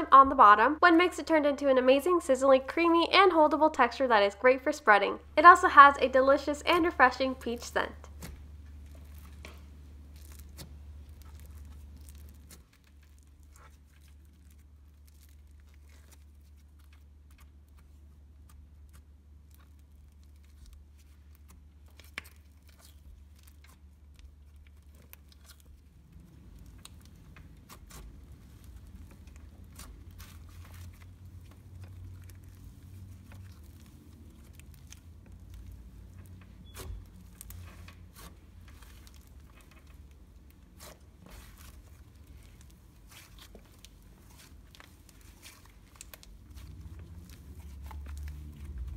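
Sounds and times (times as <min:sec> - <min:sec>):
slime crackling and clicking: 0:08.2 - 0:48.9.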